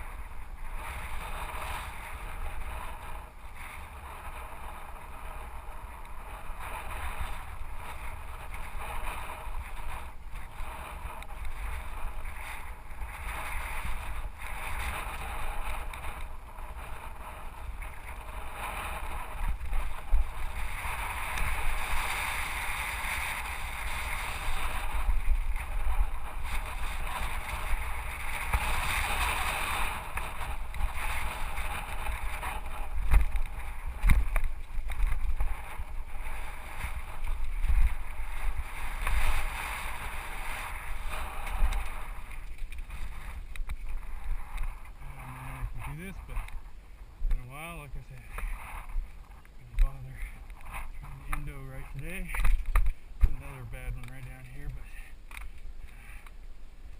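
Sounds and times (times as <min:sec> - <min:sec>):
wind rushing on microphone: 0:00.0 - 0:56.9
mountain bike rattling over rocks: 0:00.7 - 0:55.7.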